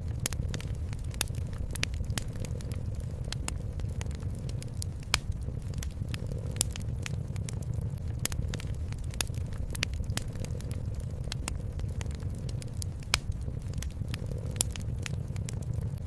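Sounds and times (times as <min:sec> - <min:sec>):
cat purring: 0:00.0 - 0:16.0
wood fire crackling: 0:00.0 - 0:16.0.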